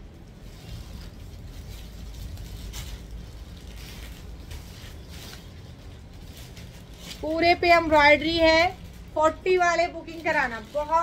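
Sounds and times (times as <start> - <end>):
cloth rustling: 0.0 - 11.0
low background hum: 0.0 - 11.0.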